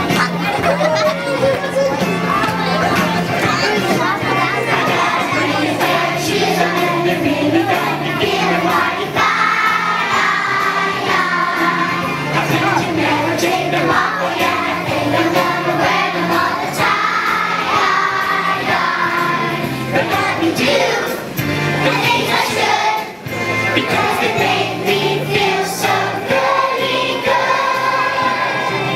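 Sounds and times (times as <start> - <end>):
children singing: 0.0 - 28.9
musical accompaniment: 0.0 - 28.9.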